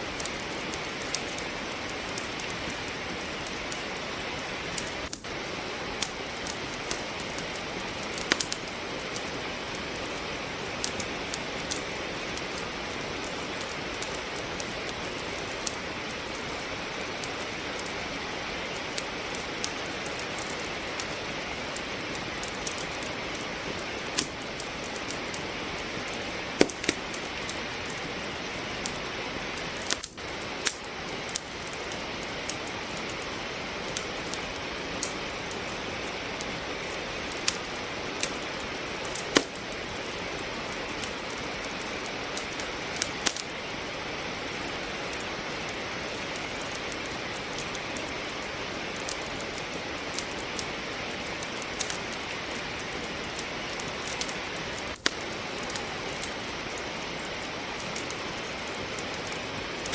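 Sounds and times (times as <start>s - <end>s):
logs crackling in a fireplace: 0.0s - 59.9s
rain hiss: 0.0s - 59.9s.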